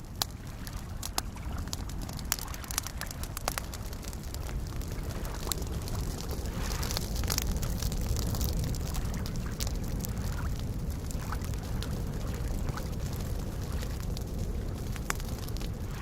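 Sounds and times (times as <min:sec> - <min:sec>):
campfire crackling: 0:00.0 - 0:16.0
fire popping: 0:00.0 - 0:16.0
small waves lapping: 0:00.2 - 0:16.0.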